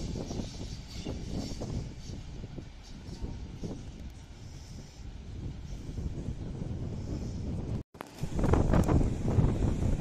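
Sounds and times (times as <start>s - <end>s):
distant train rumbling: 0.0s - 10.0s
wind buffeting microphone: 0.0s - 10.0s.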